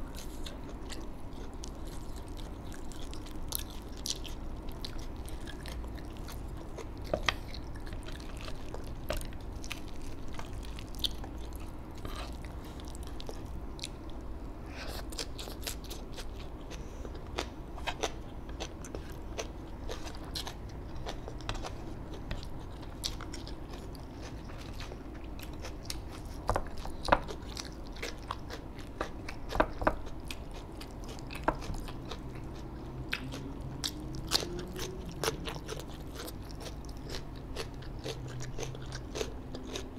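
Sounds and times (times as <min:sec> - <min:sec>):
low steady hum: 0:00.0 - 0:39.9
person chewing crunchy food: 0:00.0 - 0:39.9.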